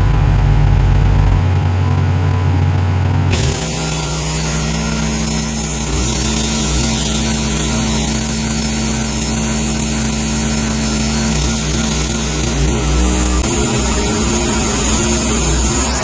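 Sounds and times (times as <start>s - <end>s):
band sawmill cutting log: 0.0s - 16.0s.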